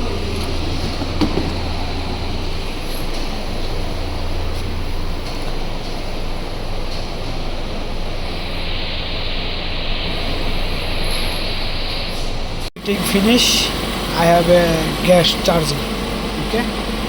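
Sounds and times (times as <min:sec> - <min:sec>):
car engine humming: 0:00.0 - 0:17.0
hiss: 0:00.0 - 0:17.0.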